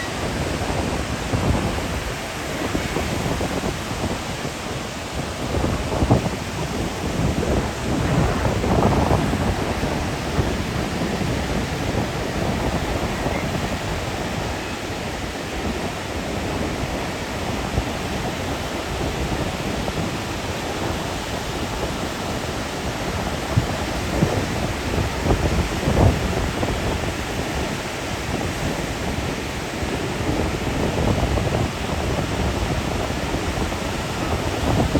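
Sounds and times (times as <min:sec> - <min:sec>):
ocean surf breaking: 0:00.0 - 0:34.9
wind on microphone: 0:00.0 - 0:34.9.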